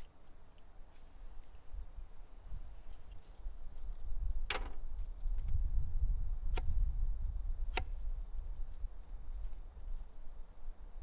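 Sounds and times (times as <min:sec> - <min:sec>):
low wind rumble on microphone: 0:01.0 - 0:11.0.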